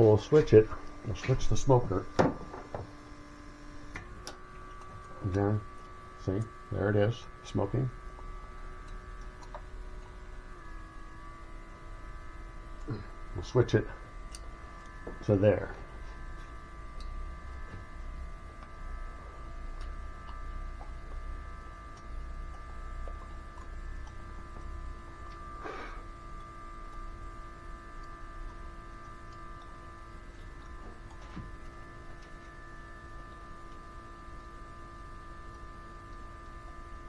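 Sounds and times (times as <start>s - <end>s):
air pump humming: 0.0s - 37.0s.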